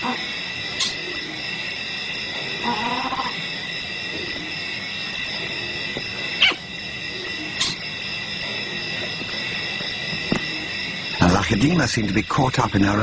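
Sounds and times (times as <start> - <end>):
night insects chorus: 0.0 - 13.0.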